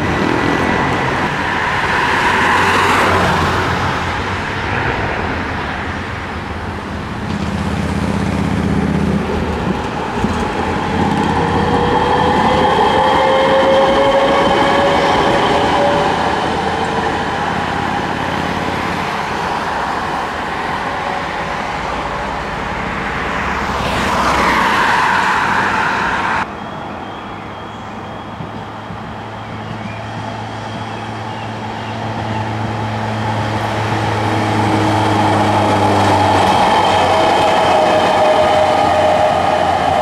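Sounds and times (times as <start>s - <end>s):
street traffic: 0.0s - 40.0s
tram whine: 0.0s - 40.0s.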